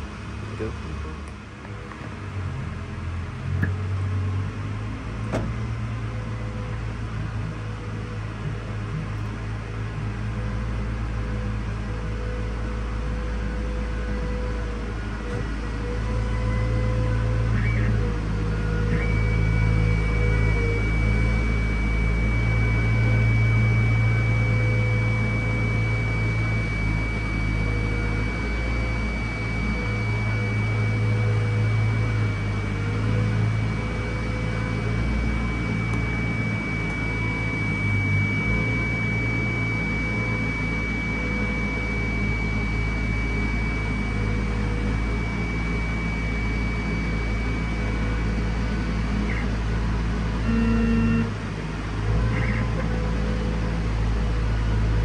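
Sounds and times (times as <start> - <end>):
printer fans and motors humming: 0.0 - 55.0
thin high whine: 0.0 - 55.0.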